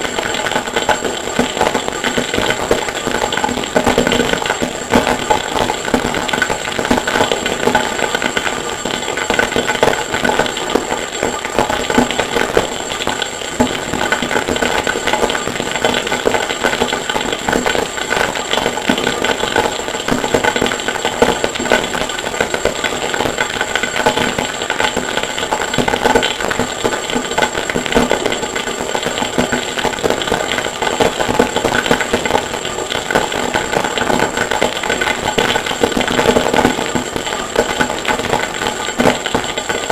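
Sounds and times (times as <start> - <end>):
distorted crackling noise music: 0.0 - 39.9.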